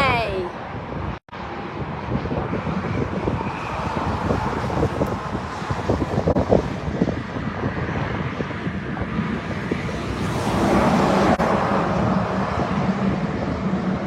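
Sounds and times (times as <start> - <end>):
engine drone: 0.0 - 14.0
wind on microphone: 0.0 - 14.0.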